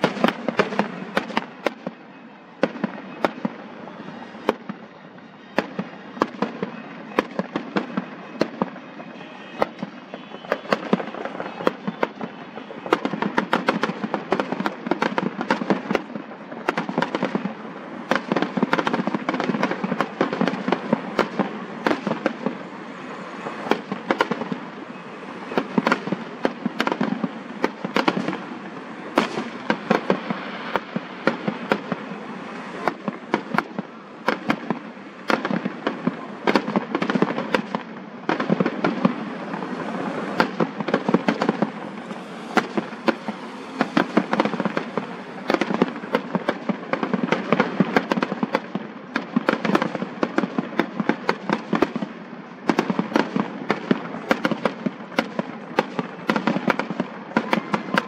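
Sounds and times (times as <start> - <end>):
fireworks bangs and crackling pops: 0.0 - 58.0.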